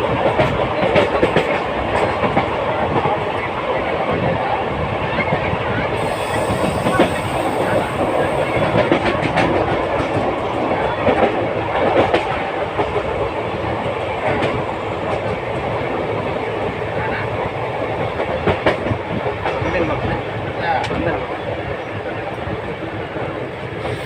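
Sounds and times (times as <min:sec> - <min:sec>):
train rumble on track: 0:00.0 - 0:24.0.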